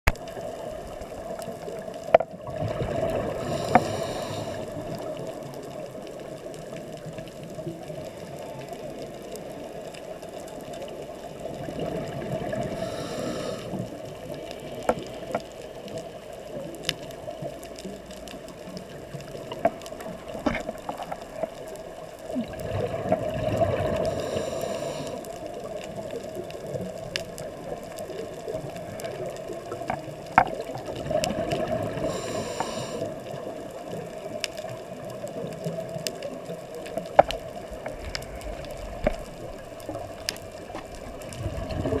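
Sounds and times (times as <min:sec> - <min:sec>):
exhaled bubbles rushing underwater: 0:00.2 - 0:08.2, 0:10.9 - 0:15.8, 0:16.5 - 0:42.0
steady watery hiss: 0:00.2 - 0:42.0.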